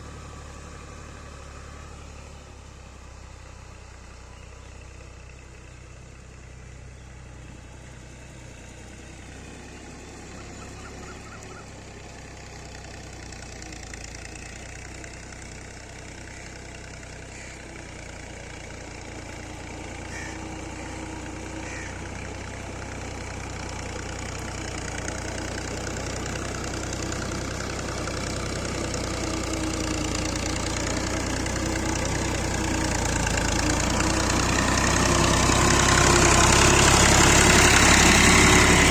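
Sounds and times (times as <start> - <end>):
tractor diesel engine droning: 0.0 - 38.9.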